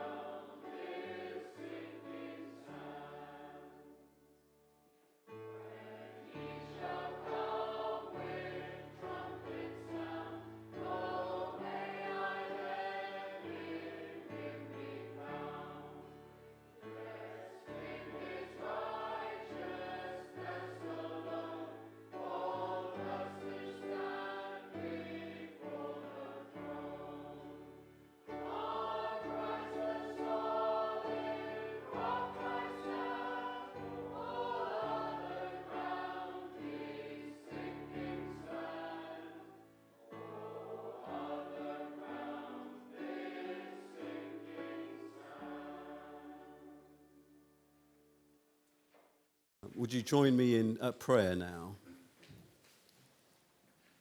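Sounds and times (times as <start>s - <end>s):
congregation singing a hymn: 0.0s - 4.2s, 5.3s - 47.5s.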